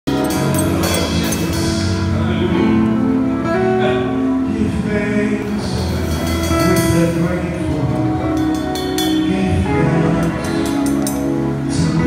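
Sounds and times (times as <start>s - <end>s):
gospel band playing: 0.1s - 12.0s
person singing: 0.5s - 12.0s.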